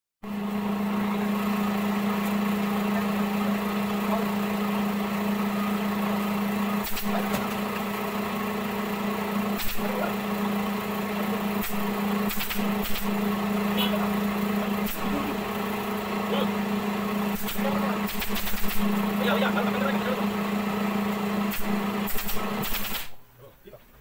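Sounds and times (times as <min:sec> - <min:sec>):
electric motor humming: 0:00.3 - 0:23.2.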